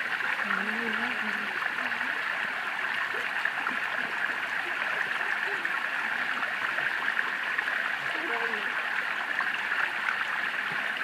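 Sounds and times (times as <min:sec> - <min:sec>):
fountain water flowing: 0:00.0 - 0:11.0.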